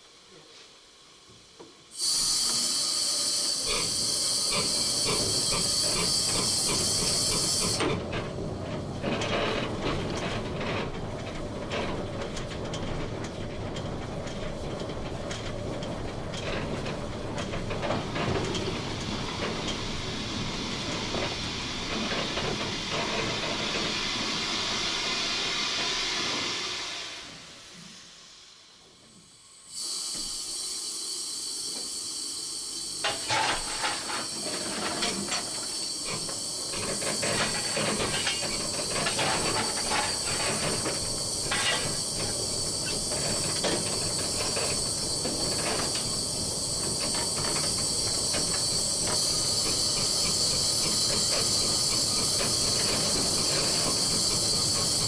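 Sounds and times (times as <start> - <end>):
steam hiss: 0.0 - 8.1, 14.6 - 55.0.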